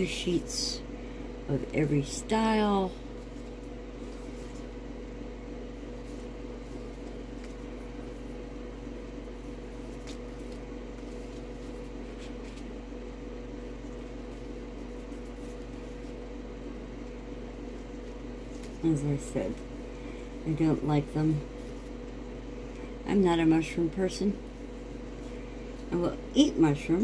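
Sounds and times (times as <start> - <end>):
appliance hum: 0.0 - 27.0.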